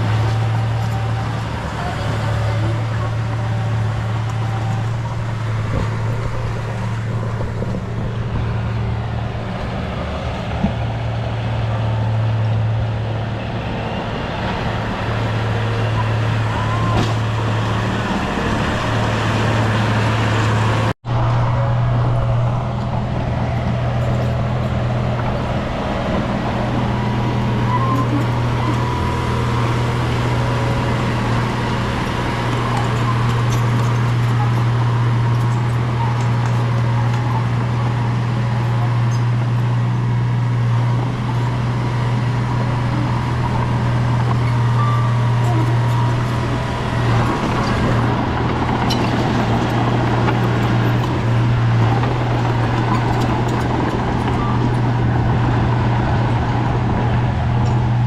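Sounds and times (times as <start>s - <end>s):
diesel engine droning under load: 0.0s - 58.0s.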